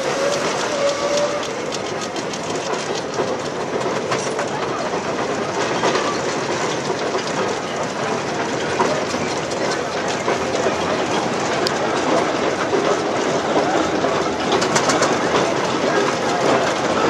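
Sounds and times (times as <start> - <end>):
steam engine running: 0.0 - 17.0.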